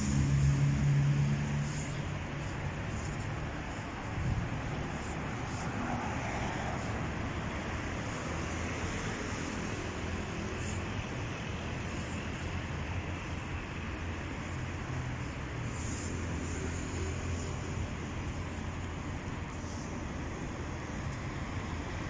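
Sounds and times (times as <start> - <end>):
city road traffic: 0.0 - 22.0.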